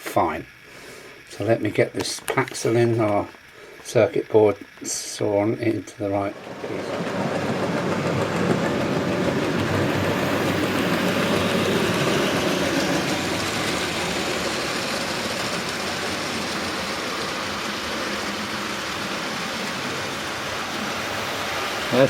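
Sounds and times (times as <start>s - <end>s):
model locomotive running on track: 0.0s - 22.0s.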